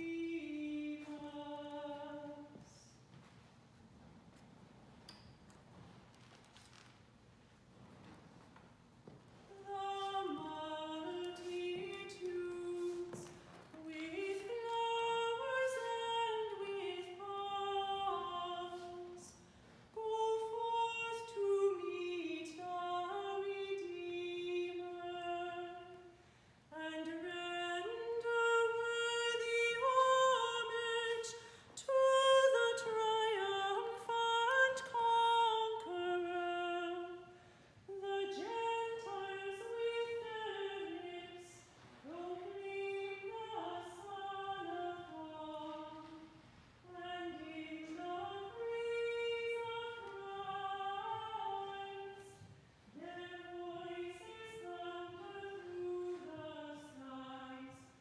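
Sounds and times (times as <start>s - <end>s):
woman singing unaccompanied: 0.0s - 3.0s, 9.5s - 26.1s, 26.7s - 37.3s, 37.9s - 58.0s.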